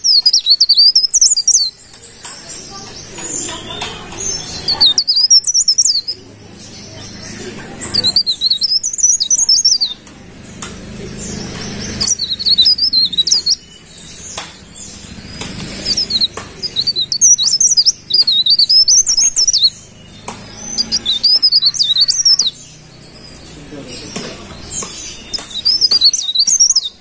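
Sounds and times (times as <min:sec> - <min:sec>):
warbler singing: 0:00.0 - 0:27.0.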